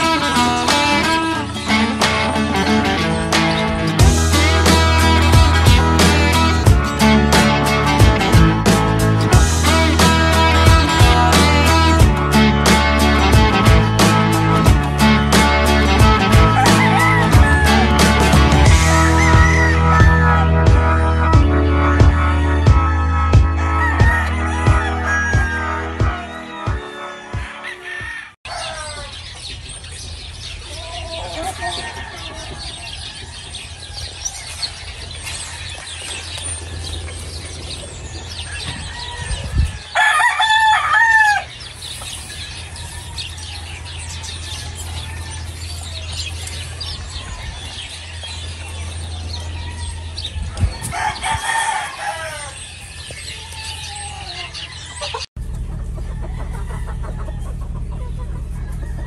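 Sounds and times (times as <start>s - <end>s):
chickens clucking and calling: 0.0s - 59.0s
roosters crowing: 0.0s - 59.0s.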